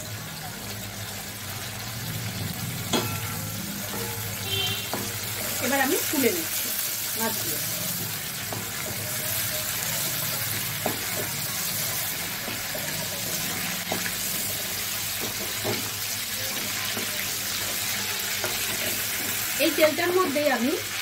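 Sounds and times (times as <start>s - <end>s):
prawns sizzling in oil: 0.0s - 21.0s.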